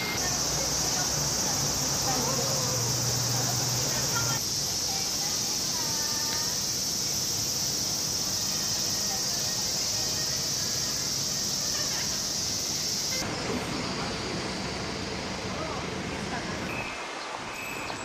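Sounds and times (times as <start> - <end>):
passers-by voices: 0.0 - 6.6, 8.2 - 16.8
cicadas shrilling: 0.0 - 15.8, 16.7 - 18.0
faint street murmur: 0.0 - 18.0.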